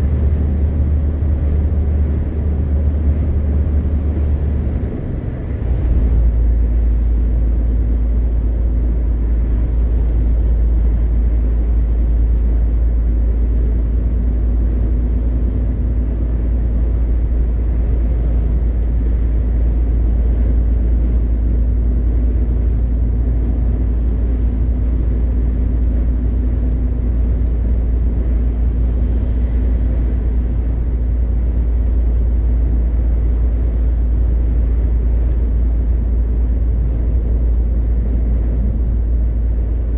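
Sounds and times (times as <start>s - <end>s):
road and wind noise: 0.0s - 39.9s
truck diesel engine droning: 0.0s - 39.9s.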